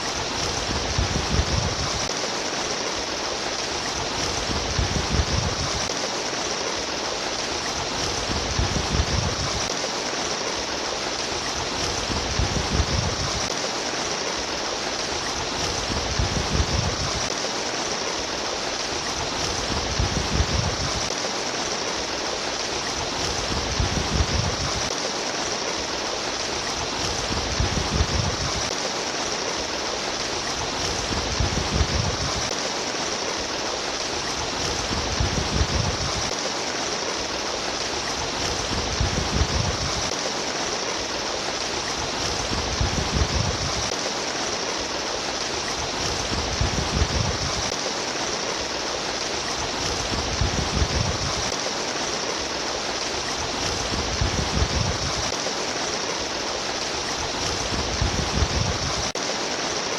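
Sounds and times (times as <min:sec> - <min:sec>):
babbling stream water: 0:00.0 - 0:59.9.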